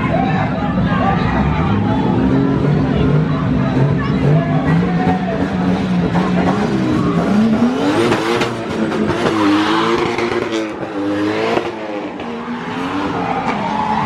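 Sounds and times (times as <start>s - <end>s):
car engine revving hard: 1.4s - 13.7s.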